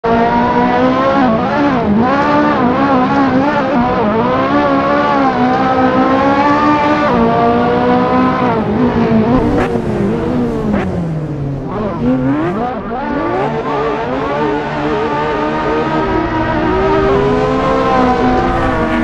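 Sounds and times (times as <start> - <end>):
sports car engine revving: 0.1 - 19.0.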